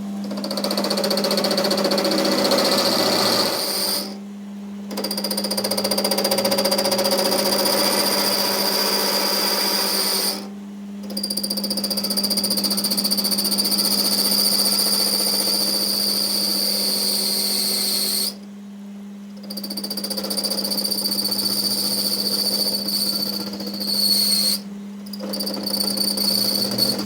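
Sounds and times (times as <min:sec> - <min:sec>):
power tool pulsing rattle: 0:00.2 - 0:04.2, 0:04.9 - 0:16.5, 0:19.4 - 0:27.0.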